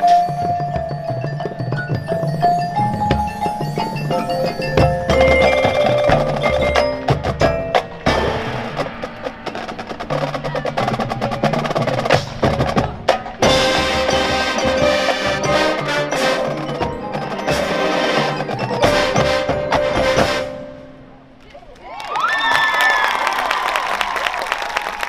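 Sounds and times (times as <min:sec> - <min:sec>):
mallet and percussion playing: 0:00.0 - 0:21.3
marching band playing: 0:00.0 - 0:21.4.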